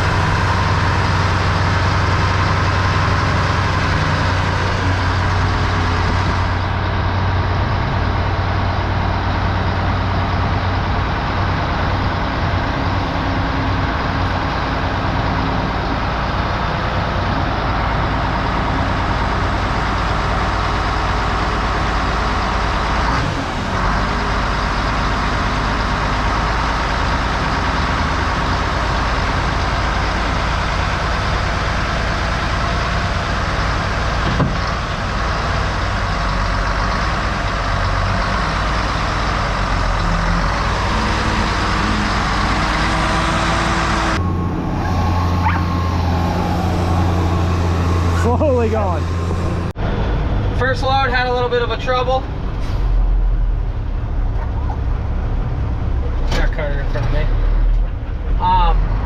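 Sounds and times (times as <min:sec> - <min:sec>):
road noise: 0:00.0 - 0:59.0
truck diesel engine droning: 0:00.0 - 0:59.0.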